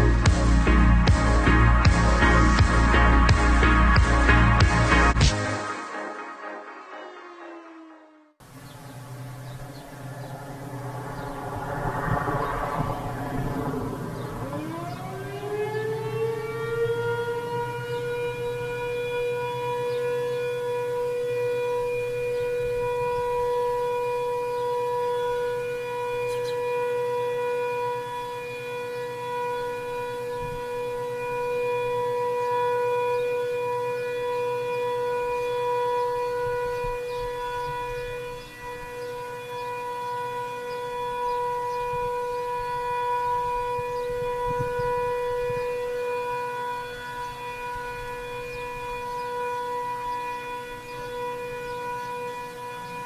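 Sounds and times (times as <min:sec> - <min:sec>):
distant warning siren steady tone: 0:00.0 - 0:53.0.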